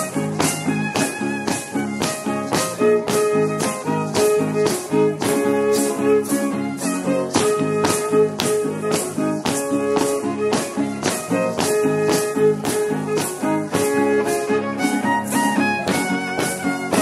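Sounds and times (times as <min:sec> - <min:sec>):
fiddle melody: 0:00.0 - 0:17.0
guitar chords: 0:00.0 - 0:17.0.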